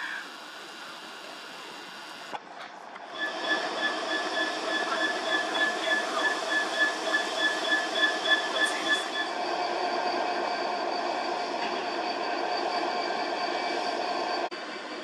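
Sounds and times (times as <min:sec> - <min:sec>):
high pulsing whine: 0:00.0 - 0:02.4, 0:03.0 - 0:15.0
diesel locomotive engine running: 0:00.0 - 0:15.0.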